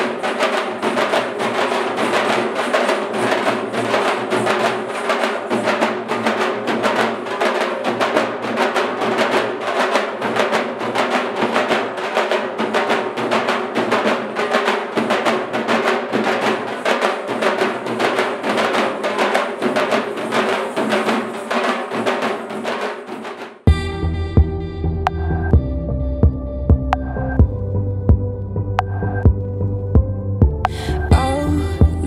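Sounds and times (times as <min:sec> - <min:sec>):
rapid drum beat: 0:00.0 - 0:32.0.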